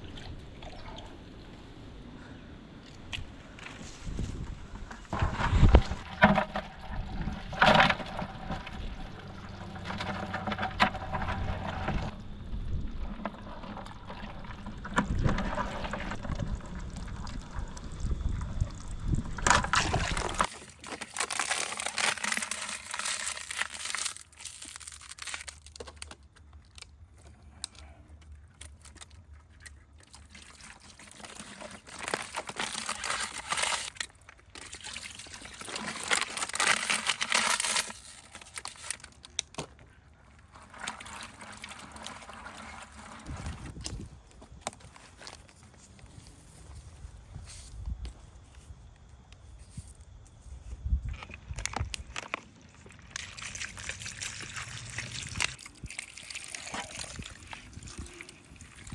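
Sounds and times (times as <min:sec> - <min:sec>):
water pouring and trickling: 0:05.1 - 0:26.1, 0:28.6 - 0:47.7, 0:51.0 - 0:58.9.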